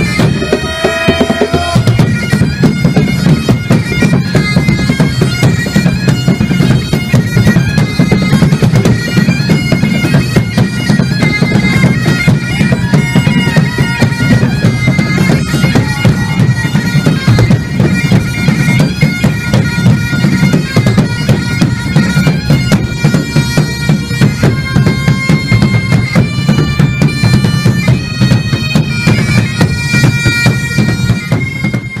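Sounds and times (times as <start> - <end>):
bagpipe music: 0.0 - 32.0.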